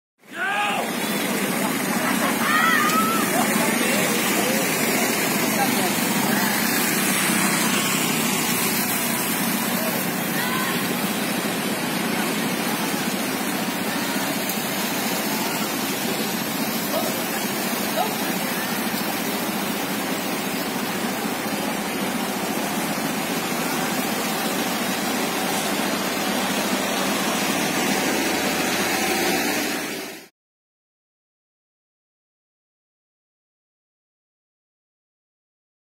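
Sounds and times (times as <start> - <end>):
traffic on wet road: 0.2 - 30.3
constant rushing noise: 0.5 - 30.3.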